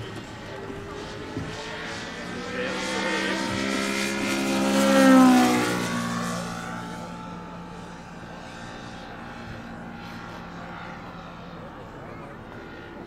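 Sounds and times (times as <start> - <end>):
model plane engine flying past: 0.0 - 13.0.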